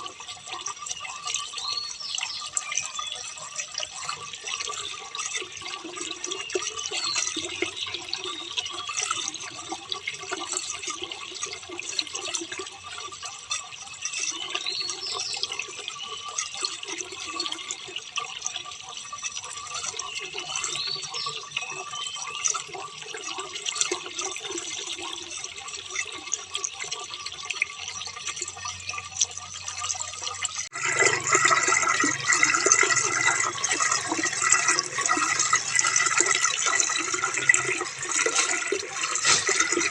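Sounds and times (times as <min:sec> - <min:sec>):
rain dripping and pattering: 0:00.0 - 0:39.9
running water: 0:00.0 - 0:39.9.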